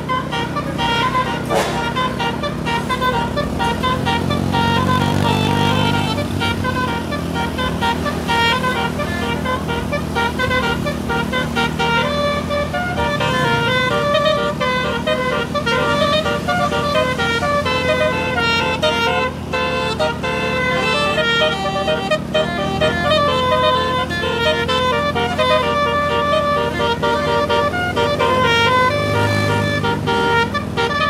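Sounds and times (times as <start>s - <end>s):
low engine hum: 0.0s - 31.0s
multi-tone air horn tune: 0.0s - 31.0s.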